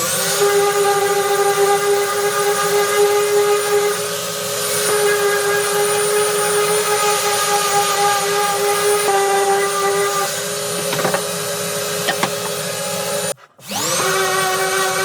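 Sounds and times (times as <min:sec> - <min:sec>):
electric power tool motor running: 0:00.0 - 0:15.0.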